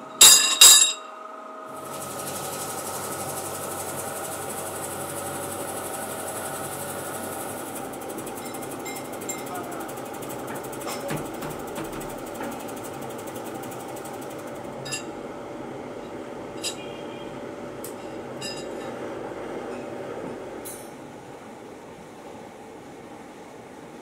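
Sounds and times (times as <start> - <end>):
workshop machinery hum: 0.0 - 24.0.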